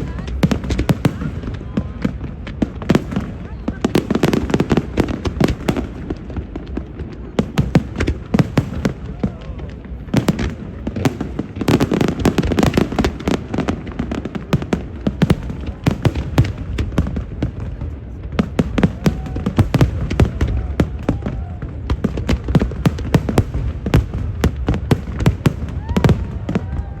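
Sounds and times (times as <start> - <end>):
continuous rumble: 0.0 - 27.0
fireworks exploding: 0.0 - 27.0.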